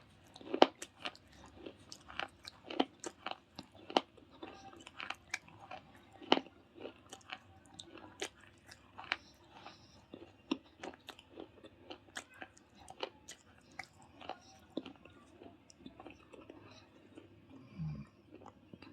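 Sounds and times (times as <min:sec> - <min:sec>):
mouth chewing hard crunchy pieces: 0:00.0 - 0:18.9.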